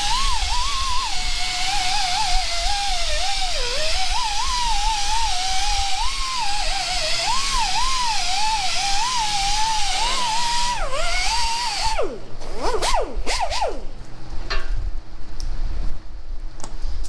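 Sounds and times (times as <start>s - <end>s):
power tool motor whining: 0.0s - 13.9s.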